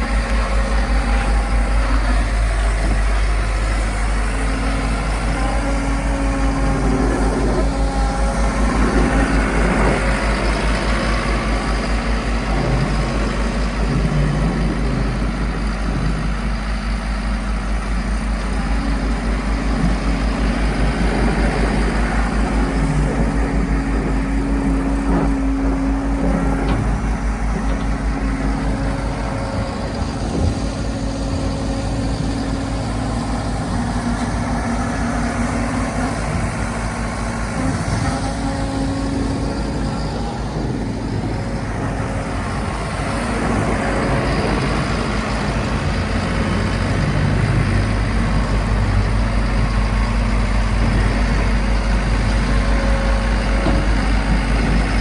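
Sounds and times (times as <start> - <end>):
skid steer engine droning: 0.0 - 55.0.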